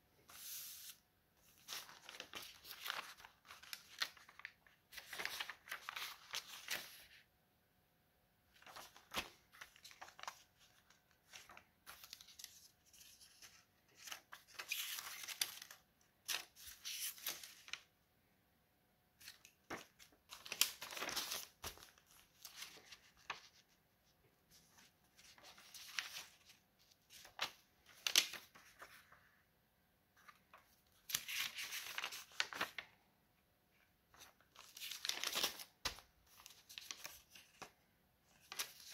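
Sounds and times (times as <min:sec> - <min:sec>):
paper pages rustling: 0:00.2 - 0:07.3, 0:08.5 - 0:17.9, 0:19.2 - 0:23.8, 0:24.5 - 0:29.3, 0:30.2 - 0:32.9, 0:34.1 - 0:38.9.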